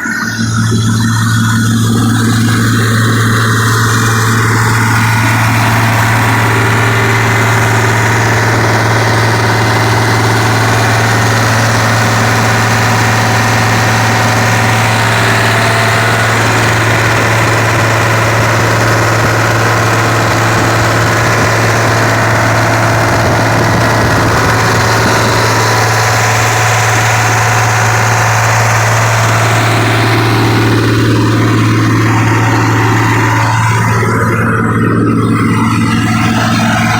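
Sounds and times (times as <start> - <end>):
air compressor engine running: 0.0 - 36.9.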